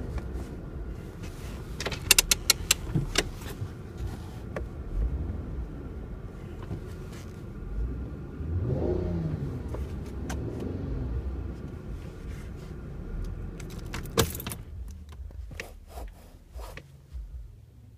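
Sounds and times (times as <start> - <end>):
road and engine rumble: 0.0 - 17.9.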